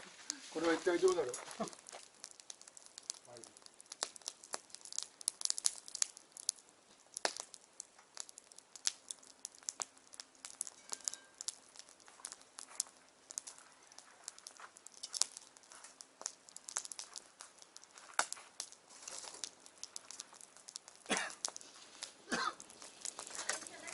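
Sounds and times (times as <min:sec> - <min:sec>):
bonfire crackling and popping: 0:00.0 - 0:23.9.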